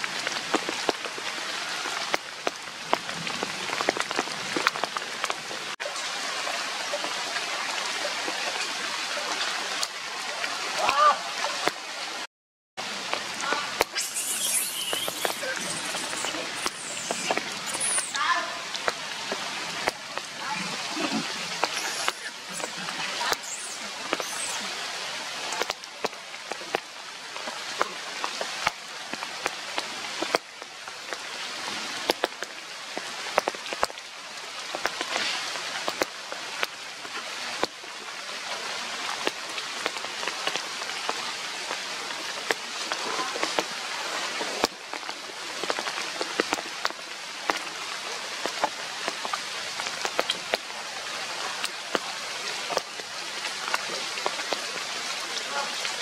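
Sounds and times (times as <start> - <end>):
steady rain with raindrops ticking: 0.0 - 56.0.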